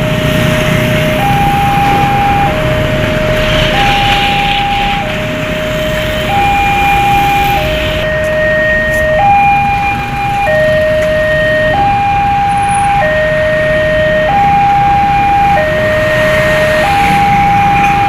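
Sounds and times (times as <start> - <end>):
two-tone hi-lo siren: 0.0 - 18.0.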